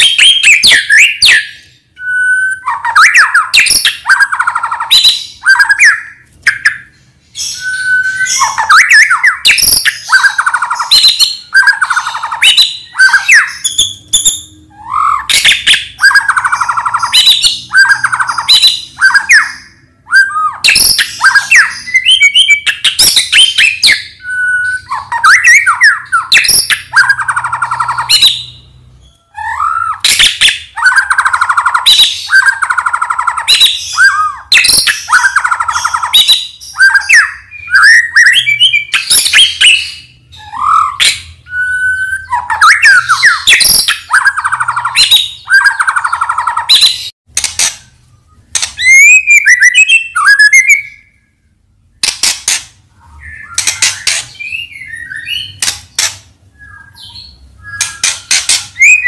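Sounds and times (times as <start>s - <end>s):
bird singing trills and whistles: 0.0s - 51.4s, 53.0s - 59.0s.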